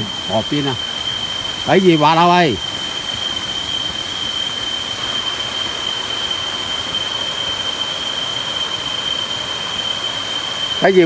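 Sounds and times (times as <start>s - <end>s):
steady high-pitched whine: 0.0s - 11.0s.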